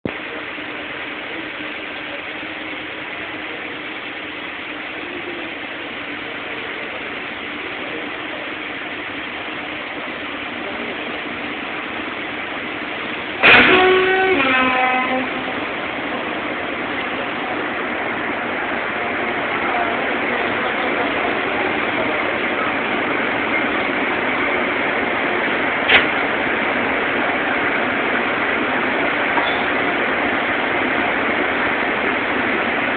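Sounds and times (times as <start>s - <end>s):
electric locomotive humming: 0.0s - 32.9s
steady hiss of cooling blowers: 0.1s - 32.9s.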